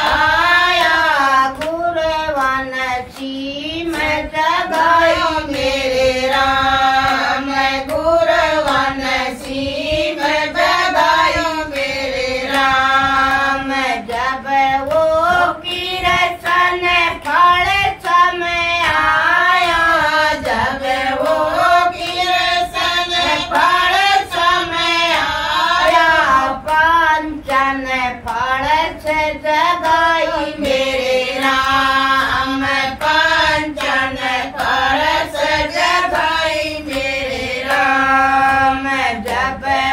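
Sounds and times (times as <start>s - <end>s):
hand claps: 0.0s - 39.9s
women singing devotional song: 0.0s - 39.9s.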